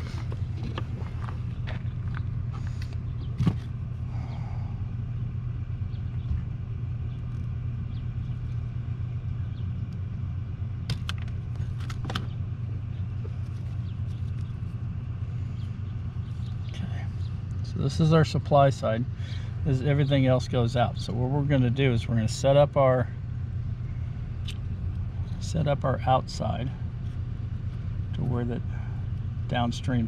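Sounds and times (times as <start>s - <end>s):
low mechanical rumble: 0.0s - 30.0s.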